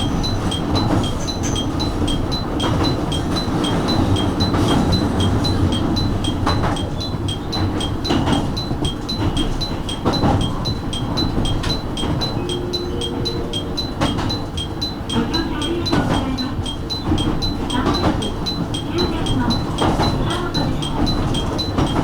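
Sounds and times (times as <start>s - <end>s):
electric train rumbling: 0.0s - 22.0s
rail joint clanks: 0.0s - 22.0s
two-note electronic chime: 0.0s - 22.0s.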